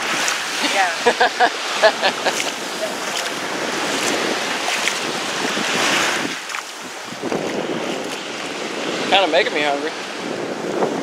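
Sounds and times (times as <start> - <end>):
small waves washing on shore: 0.0 - 11.0
wind buffeting microphone: 0.0 - 11.0.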